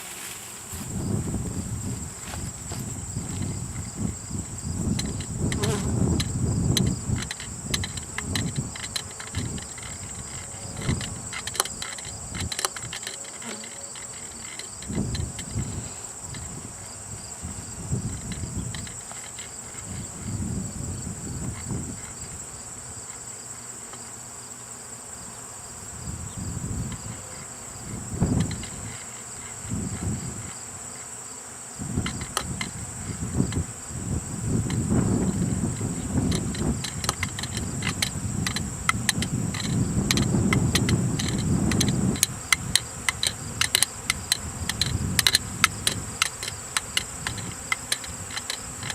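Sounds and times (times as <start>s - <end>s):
bees buzzing past: 0.0s - 11.4s, 12.1s - 48.9s
high-pitched insect trill: 0.0s - 48.9s.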